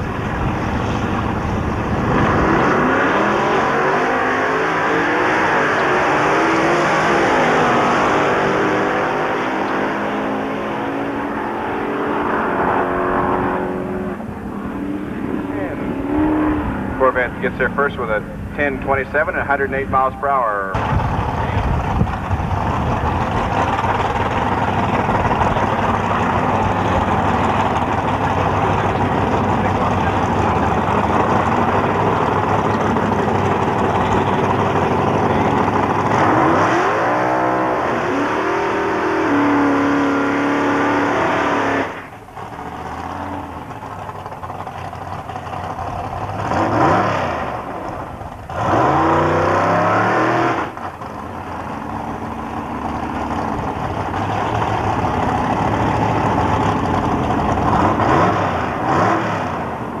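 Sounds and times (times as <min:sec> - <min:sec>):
cars accelerating away: 0:00.0 - 1:00.0
drag racing car engines revving: 0:00.0 - 1:00.0.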